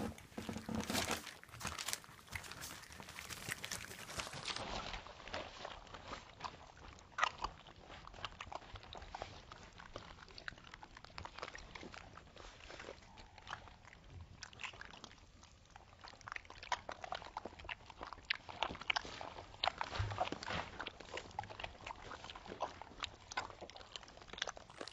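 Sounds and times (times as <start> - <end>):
puppies licking and chewing: 0.0 - 24.9.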